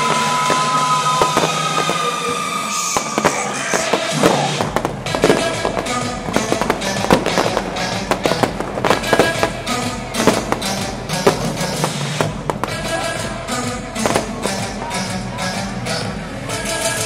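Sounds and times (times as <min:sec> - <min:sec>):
fireworks bangs and crackles: 0:00.0 - 0:17.0
loud music: 0:00.0 - 0:17.0.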